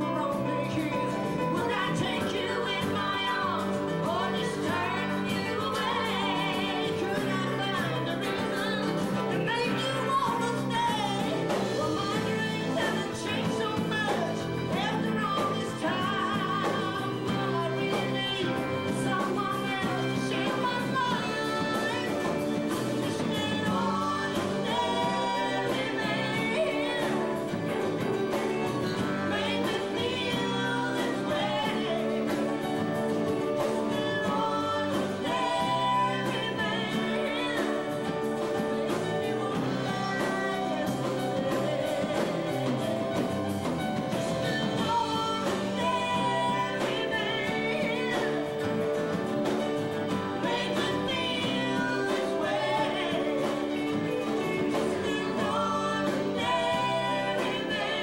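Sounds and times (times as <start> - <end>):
live band playing: 0.0 - 58.0
woman singing backing vocals: 0.0 - 58.0
woman singing lead: 0.0 - 58.0.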